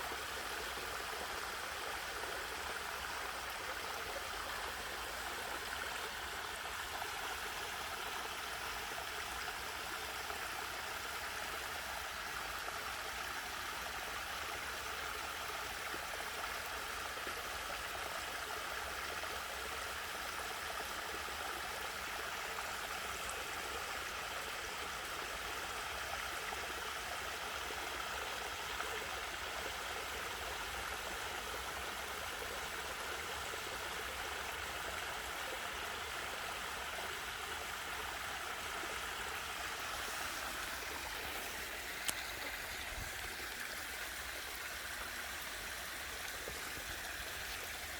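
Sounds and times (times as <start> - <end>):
stream water flowing: 0.0 - 47.9.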